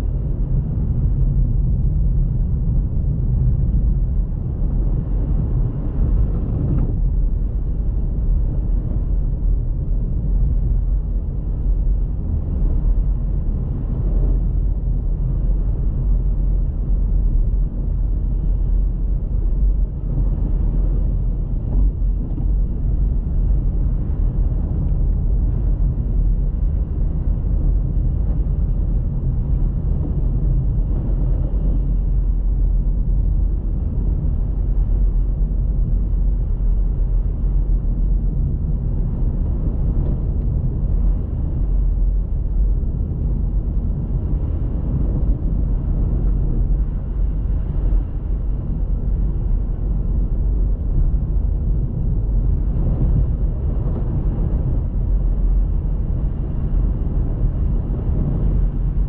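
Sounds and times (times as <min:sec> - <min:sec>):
car driving with low rumble: 0:00.0 - 0:59.0.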